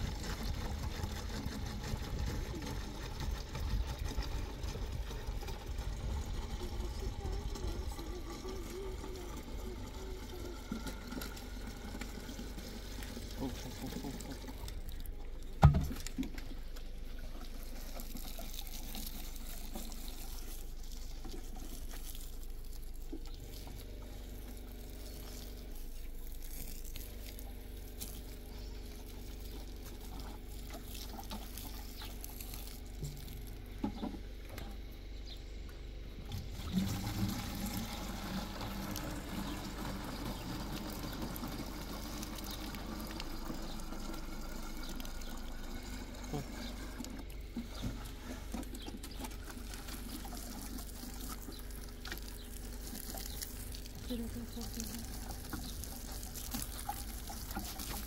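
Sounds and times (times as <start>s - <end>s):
water pouring: 0.0s - 34.0s, 36.2s - 58.0s.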